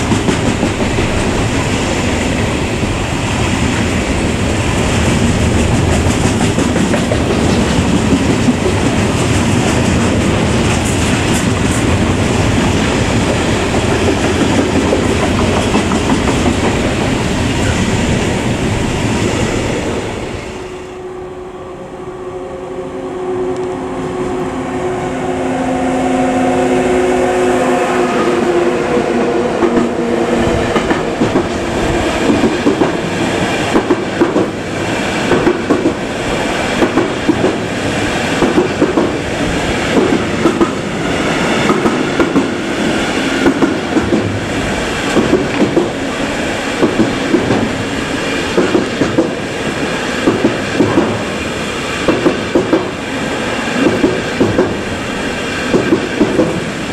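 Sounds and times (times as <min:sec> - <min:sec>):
train wheels clickety-clack: 0:00.0 - 0:18.3, 0:29.0 - 0:56.9
train hum: 0:00.0 - 0:56.9.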